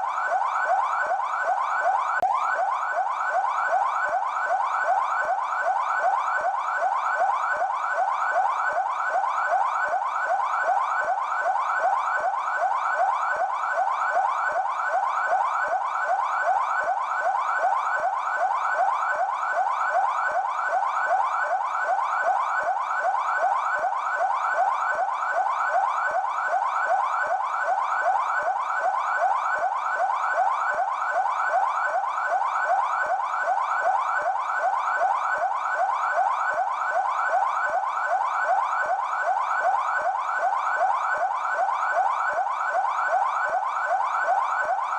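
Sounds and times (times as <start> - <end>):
police siren yelping: 0.0 - 44.9.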